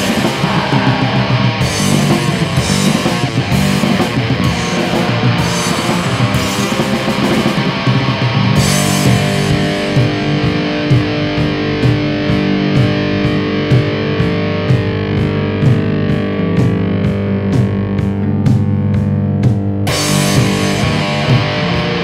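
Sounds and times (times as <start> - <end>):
distorted electric guitars: 0.0 - 22.0
steady drum beat: 0.0 - 22.0.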